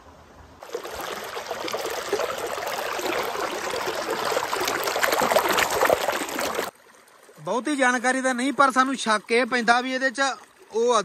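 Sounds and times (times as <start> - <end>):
stream rushing over rocks: 0.6 - 9.6.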